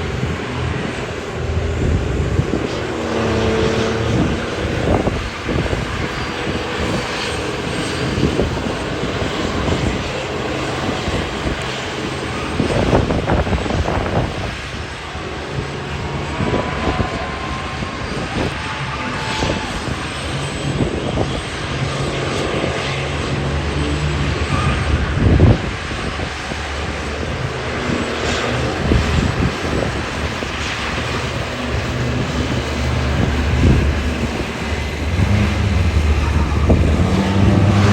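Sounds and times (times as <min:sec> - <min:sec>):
diesel truck engines revving: 0:00.0 - 0:37.9.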